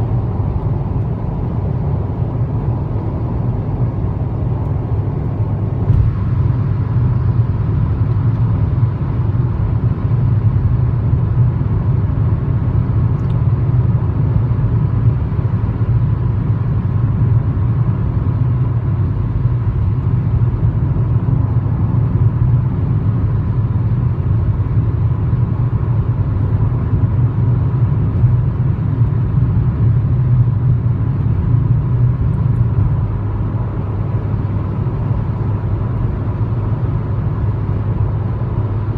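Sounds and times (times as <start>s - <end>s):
car cabin road rumble: 0.0s - 38.9s.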